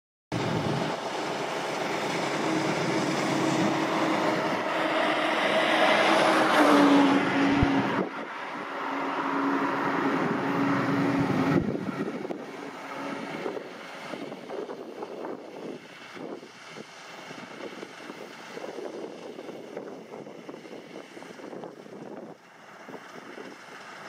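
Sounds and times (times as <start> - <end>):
combine harvester drone: 0.4 - 24.0.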